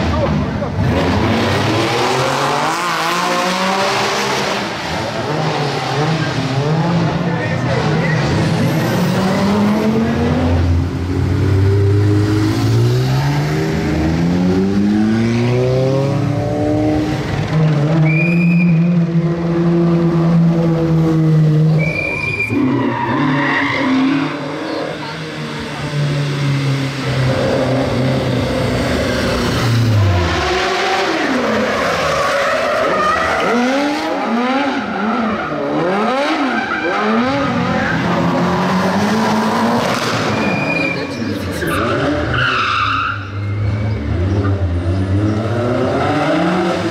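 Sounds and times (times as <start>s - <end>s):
rally car engine revving high: 0.0s - 46.9s.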